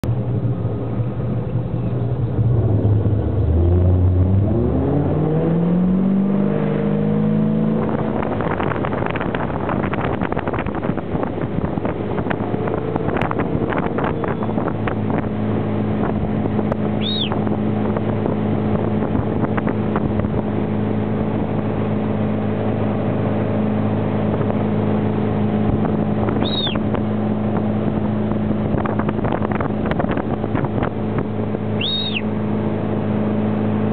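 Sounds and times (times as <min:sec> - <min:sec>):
motorboat engine accelerating: 0:00.0 - 0:33.9
rush of spray and wake: 0:00.0 - 0:33.9.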